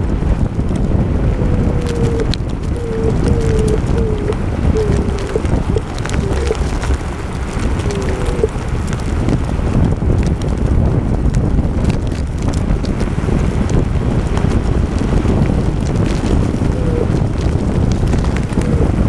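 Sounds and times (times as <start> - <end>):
scooter wheels rolling on dirt: 0.0 - 19.0
wind buffeting microphone: 0.0 - 19.0.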